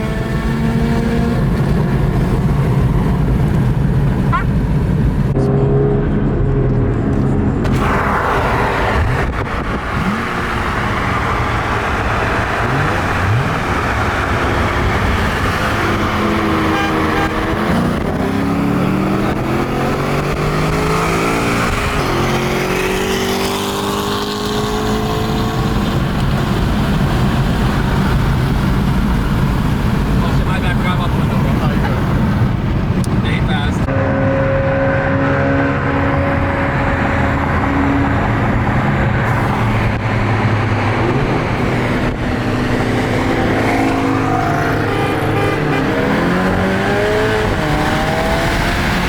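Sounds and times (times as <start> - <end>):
car engine accelerating hard: 0.0 - 49.0
wind and road noise: 0.0 - 49.0.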